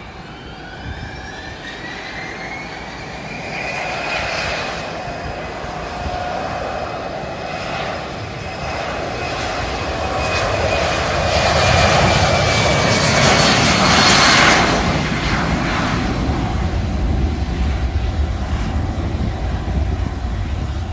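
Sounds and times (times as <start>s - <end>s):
jet engines passing by: 0.0s - 20.9s.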